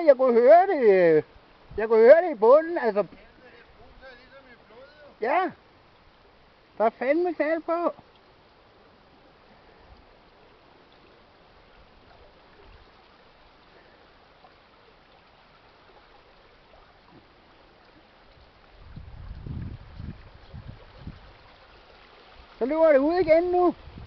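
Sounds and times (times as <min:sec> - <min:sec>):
seawater rushing and gurgling: 0:00.0 - 0:24.0.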